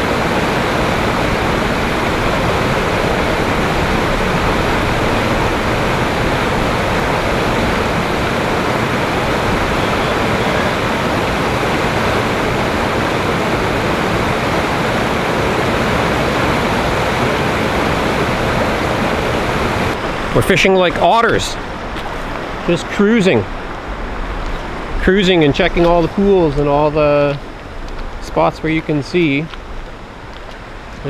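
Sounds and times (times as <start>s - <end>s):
river flowing over rocks: 0.0s - 31.0s.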